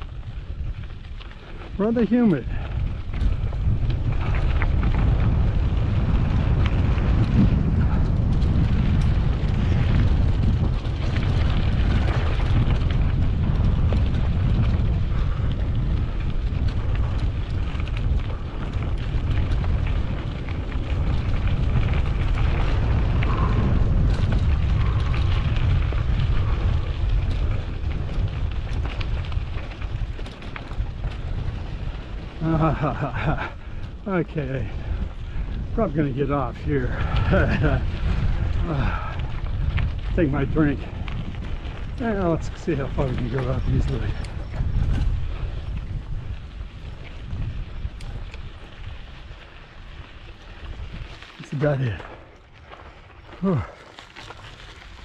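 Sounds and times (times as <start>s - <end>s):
bike tyres crackling on dirt: 0.0s - 55.0s
wind buffeting microphone: 0.0s - 55.0s.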